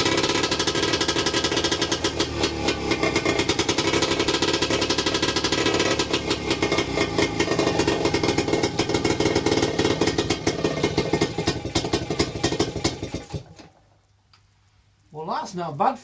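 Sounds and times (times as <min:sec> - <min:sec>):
outboard engine running: 0:00.0 - 0:13.6.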